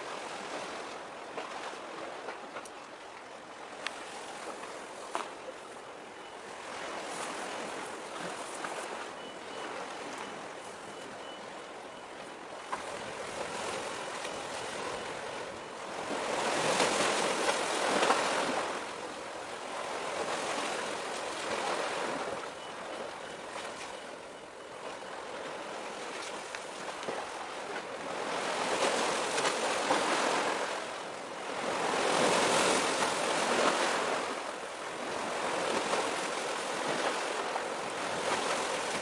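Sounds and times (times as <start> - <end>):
waves washing on shore: 0.0 - 39.0.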